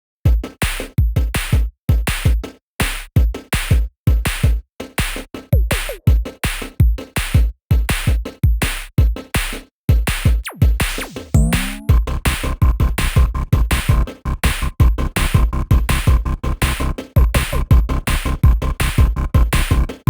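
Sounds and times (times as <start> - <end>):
electronic music with drum-machine beat: 0.3 - 20.0.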